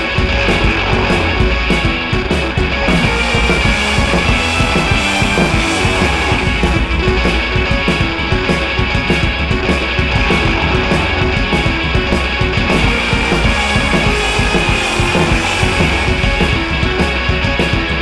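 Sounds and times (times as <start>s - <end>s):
driving drum beat: 0.0s - 18.0s
electric guitar: 0.0s - 18.0s
rock music: 0.0s - 18.0s.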